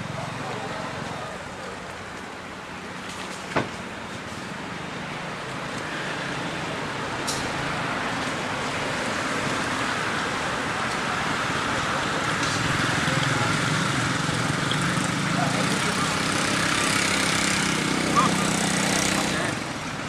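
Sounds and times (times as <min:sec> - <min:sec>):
motor traffic hum: 0:00.0 - 0:20.0
vehicle approaching: 0:00.0 - 0:20.0.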